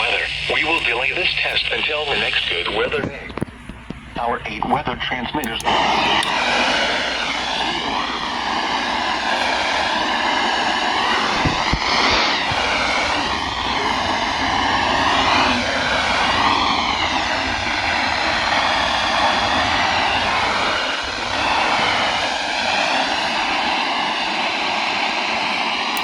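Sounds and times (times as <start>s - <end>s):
radio hiss and static: 0.0s - 26.0s.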